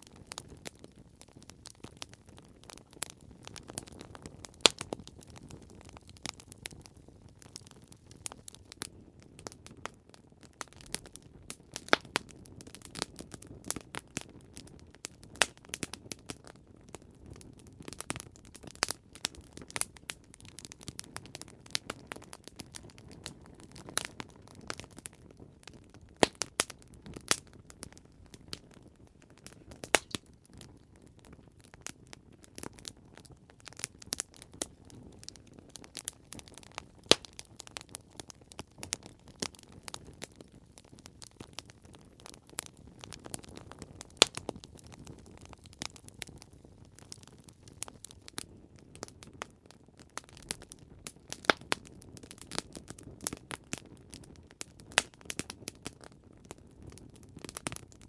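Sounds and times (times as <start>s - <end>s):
campfire pops and snaps: 0.0s - 58.0s.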